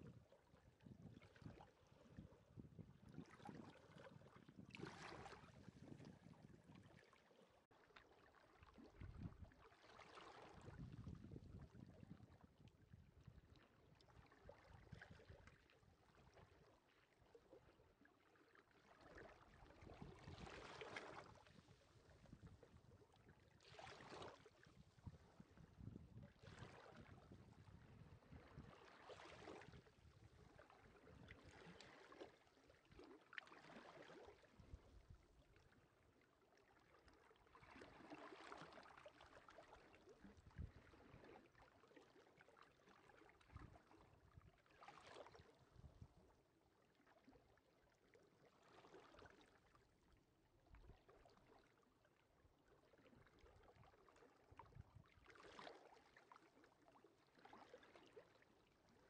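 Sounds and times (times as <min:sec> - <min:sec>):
faint small waves on shore: 0:00.0 - 0:59.0.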